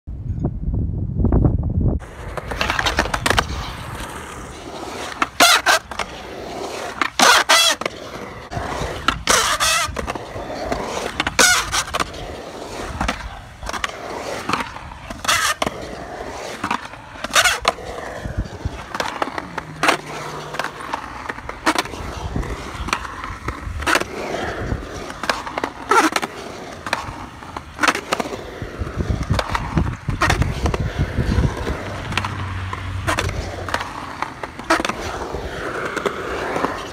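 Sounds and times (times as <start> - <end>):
skateboard wheels rolling on concrete: 1.1 - 36.9.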